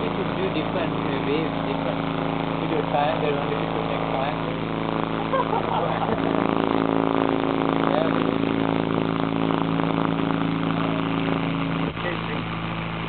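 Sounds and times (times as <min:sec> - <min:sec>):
low buzzing subwoofer tone: 0:00.0 - 0:13.0.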